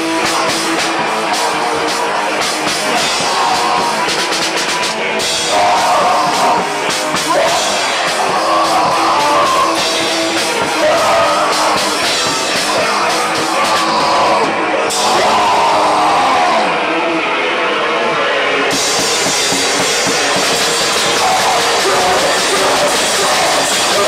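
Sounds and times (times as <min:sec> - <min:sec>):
drum kit pounding: 0:00.0 - 0:16.7, 0:18.7 - 0:24.0
metal band playing: 0:00.0 - 0:17.5, 0:18.3 - 0:24.0
amplified electric guitars: 0:00.0 - 0:24.0.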